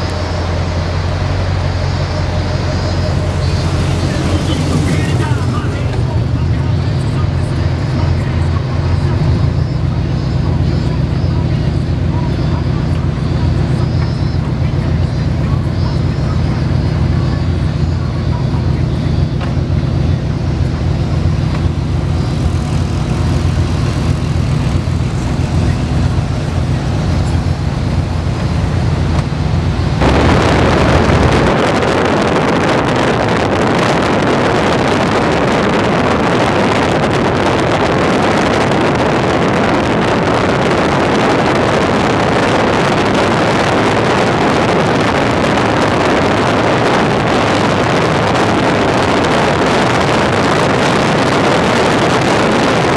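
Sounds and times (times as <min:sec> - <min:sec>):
loud even rushing noise: 0:00.0 - 0:09.6, 0:19.1 - 0:52.9
vehicle engine droning: 0:00.0 - 0:52.9.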